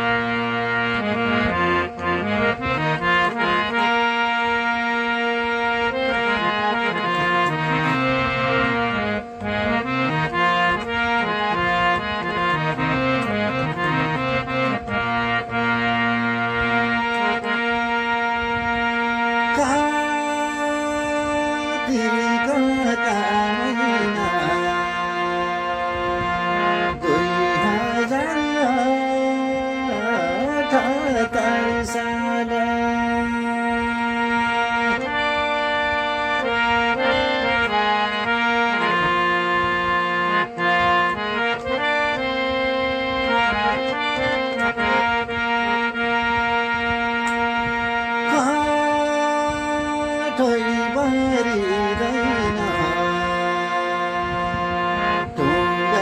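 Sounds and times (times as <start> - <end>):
reed instrument melody: 0.0 - 56.0.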